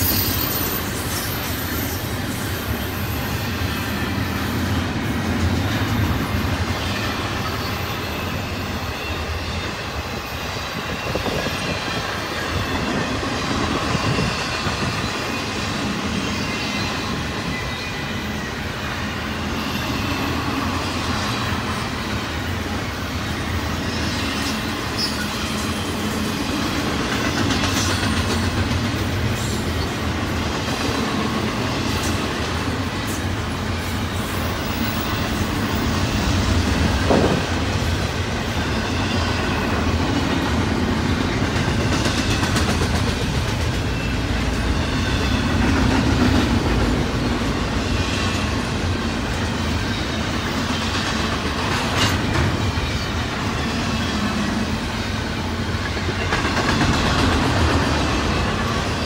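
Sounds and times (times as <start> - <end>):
steel wheels rumbling on track: 0.0 - 59.0.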